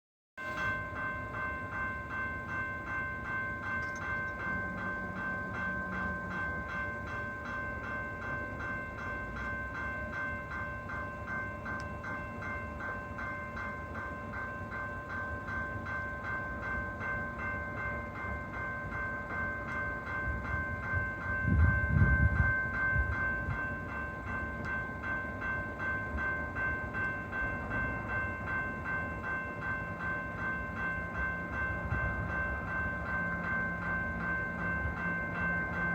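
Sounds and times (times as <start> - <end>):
loud low train rumble: 0.4 - 35.9
warning bell ringing rapidly: 0.4 - 35.9.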